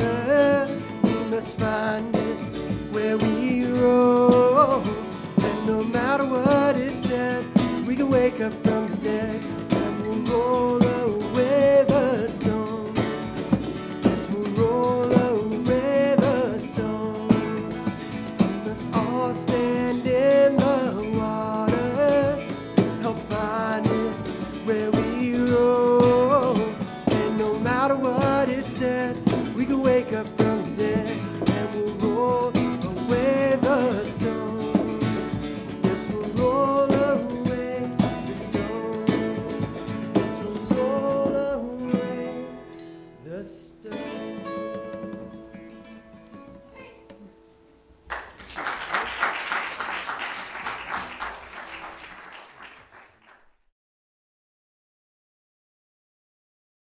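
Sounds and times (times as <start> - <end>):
cajon beat: 0.0 - 42.5, 44.0 - 47.3, 48.1 - 53.1
acoustic guitars strumming: 0.0 - 52.8.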